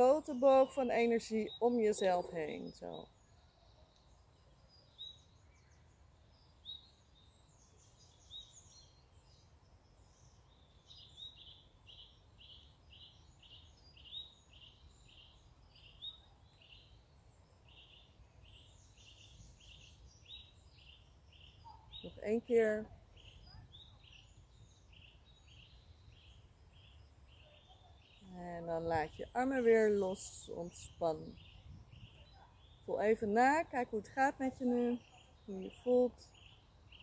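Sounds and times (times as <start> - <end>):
bird chirps: 0.0 - 37.0.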